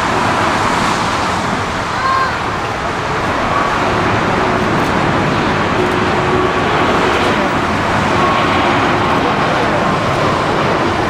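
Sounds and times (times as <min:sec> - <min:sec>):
heavy motorway traffic: 0:00.0 - 0:11.0.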